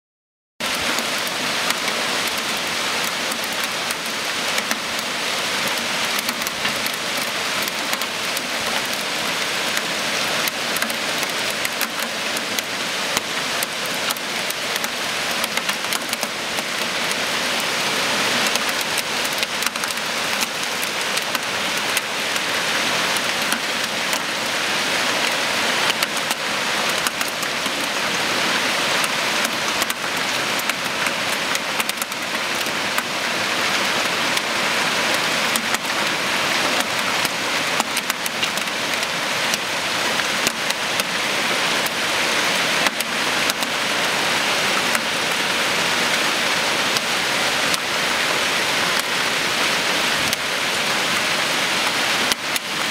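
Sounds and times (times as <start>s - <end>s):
hail pelting street and cars: 0.6s - 52.9s.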